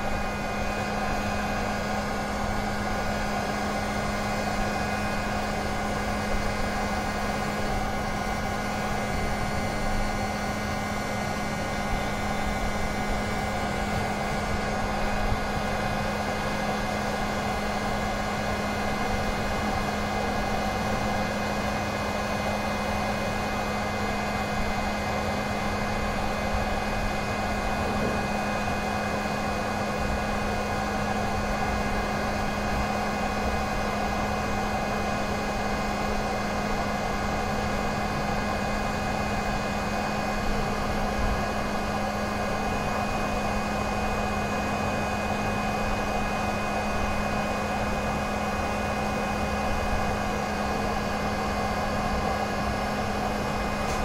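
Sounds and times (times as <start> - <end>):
heat gun fan blowing: 0.0 - 54.0.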